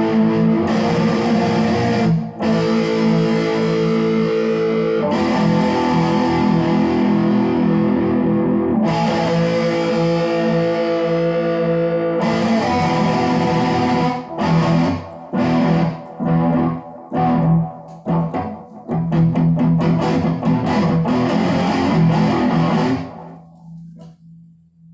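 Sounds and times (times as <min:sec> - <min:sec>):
guitar strumming chords: 0:00.0 - 0:24.2.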